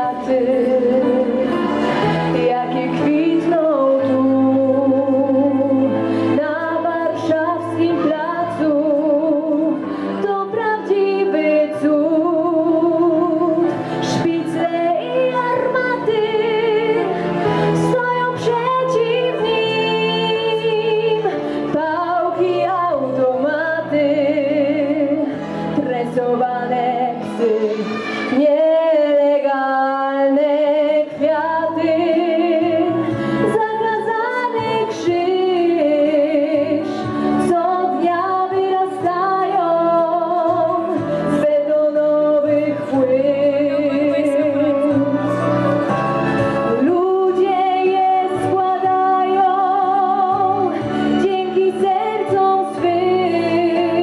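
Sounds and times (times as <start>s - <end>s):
woman singing with vibrato: 0.0s - 45.4s, 46.7s - 54.0s
instrumental backing music: 0.0s - 54.0s.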